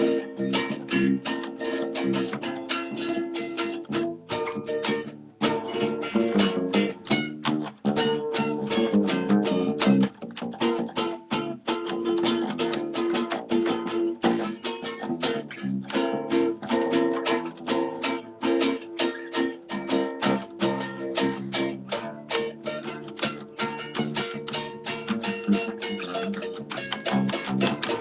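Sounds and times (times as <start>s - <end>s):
acoustic bass guitar: 0.0s - 28.0s
acoustic guitar strumming samba: 0.0s - 28.0s.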